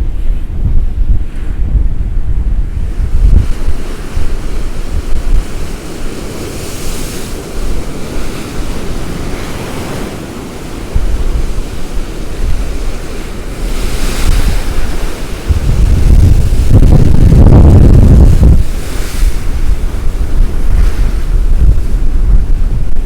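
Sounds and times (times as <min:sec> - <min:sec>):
storm waves breaking: 0:00.0 - 0:23.0
wind buffeting microphone: 0:00.0 - 0:23.0.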